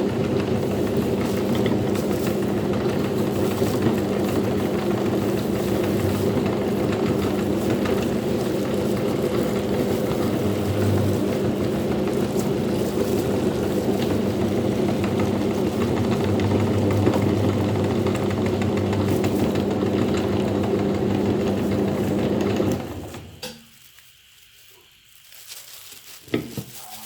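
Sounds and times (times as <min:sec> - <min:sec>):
electric meat grinder motor humming: 0:00.0 - 0:23.4.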